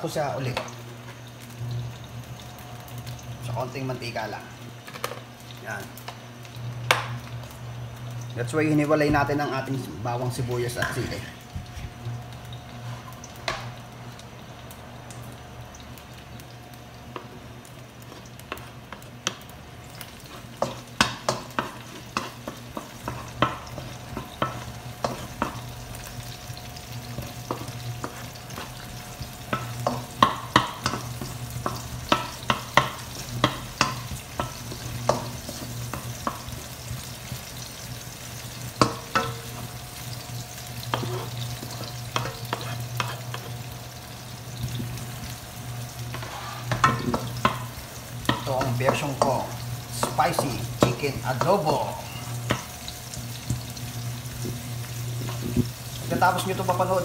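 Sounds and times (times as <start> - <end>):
garlic and onion sizzling: 0.0 - 57.0.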